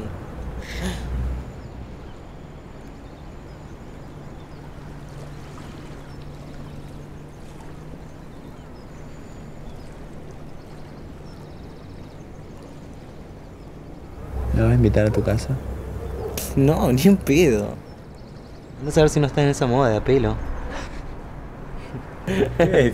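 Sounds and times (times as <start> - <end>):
faint low hum: 0.0 - 22.9
flowing river water: 0.0 - 22.9.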